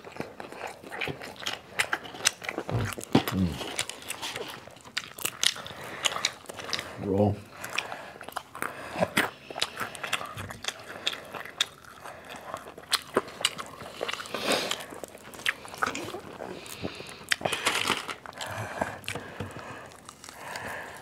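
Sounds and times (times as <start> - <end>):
crunching and chewing food: 0.0 - 21.0.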